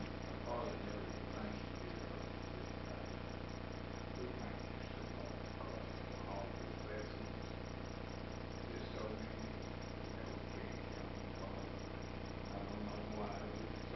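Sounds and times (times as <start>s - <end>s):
electrical hum and buzz: 0.0s - 13.9s
fast even ticking: 0.0s - 13.9s
faint indistinct voice: 0.4s - 3.3s, 4.0s - 7.6s, 8.6s - 13.9s.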